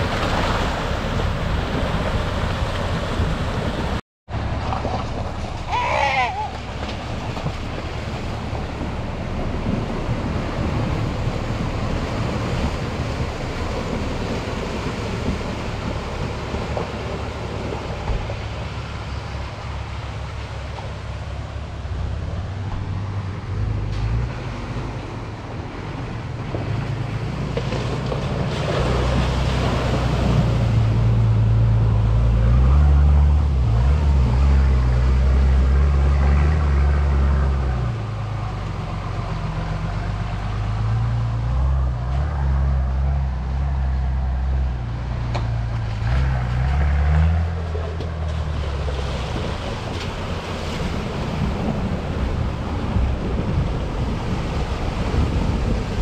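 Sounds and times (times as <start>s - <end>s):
rushing wind or tyre noise: 0.0s - 56.0s.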